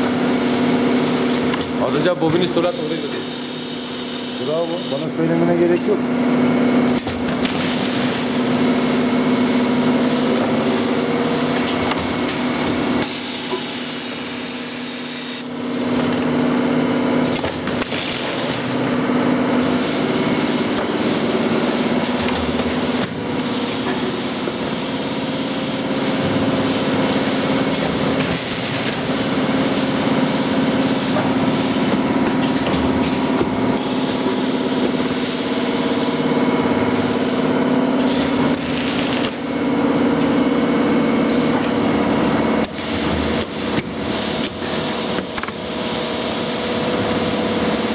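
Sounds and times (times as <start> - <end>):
packaging machine humming: 0.0 - 47.9.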